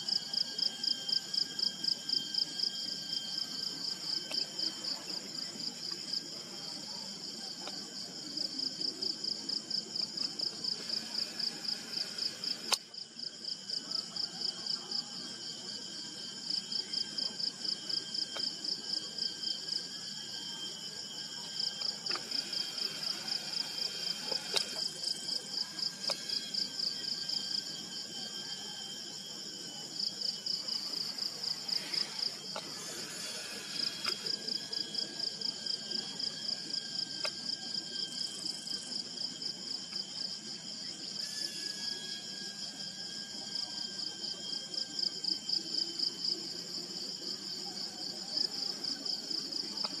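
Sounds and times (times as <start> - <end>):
insects calling in pulsing chorus: 0.0 - 50.0.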